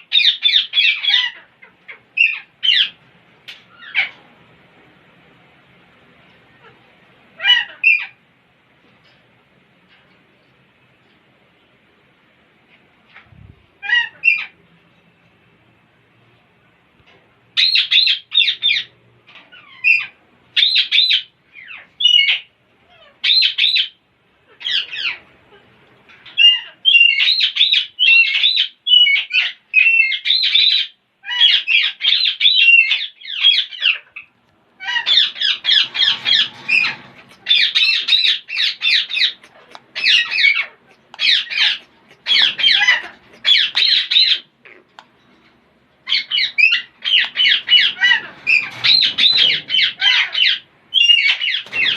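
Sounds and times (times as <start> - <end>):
parrots squawking and chattering: 0.0 - 4.3, 6.4 - 8.2, 13.1 - 14.6, 17.6 - 51.9.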